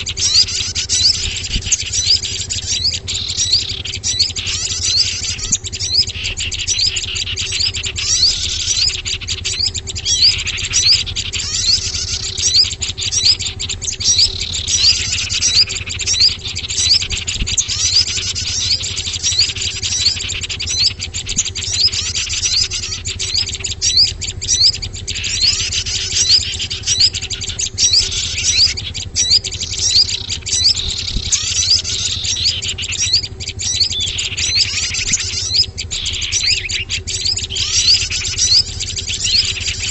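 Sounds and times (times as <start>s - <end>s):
falling sweeping bird calls: 0.0s - 39.9s
small songbirds chirping: 0.0s - 39.9s
steady low hum: 0.0s - 39.9s.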